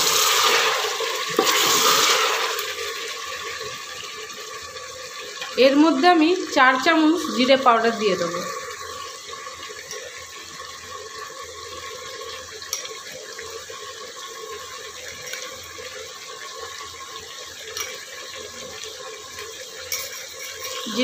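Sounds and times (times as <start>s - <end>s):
meat sizzling in a pot: 0.0s - 21.0s.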